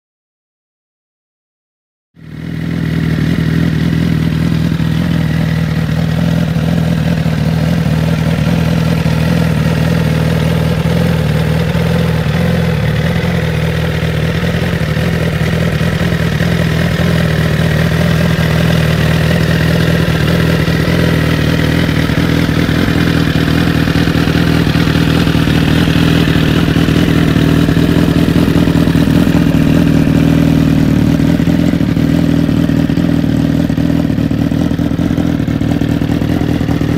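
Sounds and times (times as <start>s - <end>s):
motorcycle engine idling: 2.2s - 36.9s.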